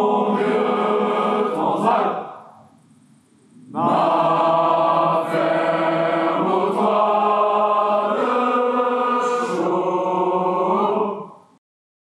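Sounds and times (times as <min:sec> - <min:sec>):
group singing in unison: 0:00.0 - 0:02.4, 0:03.7 - 0:11.6.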